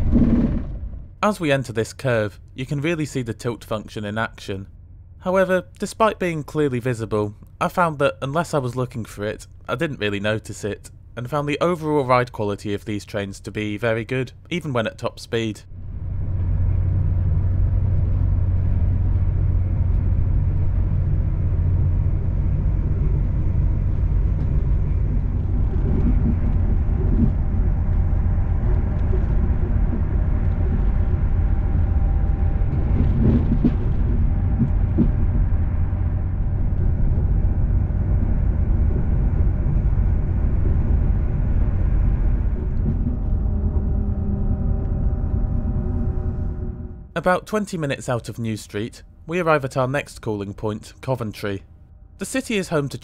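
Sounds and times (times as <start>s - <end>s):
train engine and wheels rumbling: 0.0s - 53.0s.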